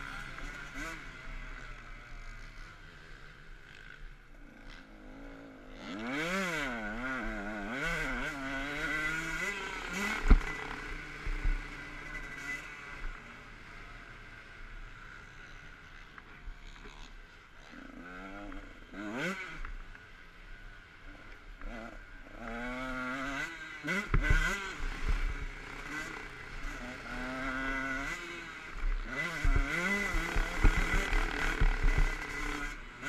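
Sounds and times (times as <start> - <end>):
dirt bike engine revving: 0.0 - 15.7, 16.6 - 19.8, 21.6 - 33.0.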